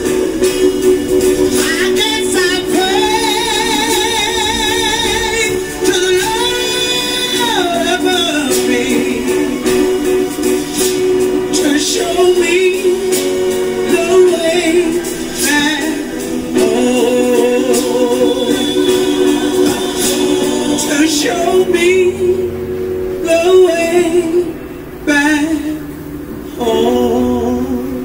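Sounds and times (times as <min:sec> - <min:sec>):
woman singing gospel: 0:00.0 - 0:10.7, 0:11.4 - 0:25.8, 0:26.5 - 0:28.0
sustained backing chords: 0:00.0 - 0:28.0.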